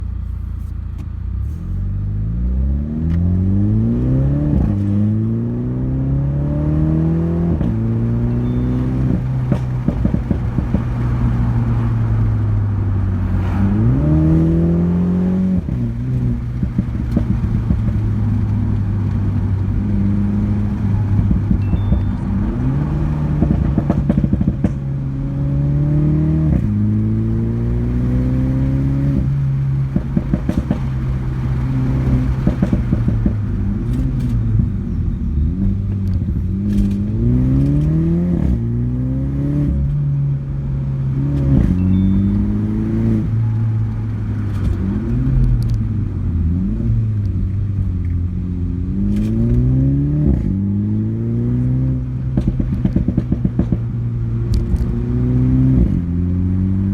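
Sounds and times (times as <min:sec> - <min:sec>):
car engine accelerating through gears: 0:01.0 - 0:56.9
exhaust crackles and pops: 0:07.0 - 0:38.8, 0:39.6 - 0:50.7, 0:51.4 - 0:56.9.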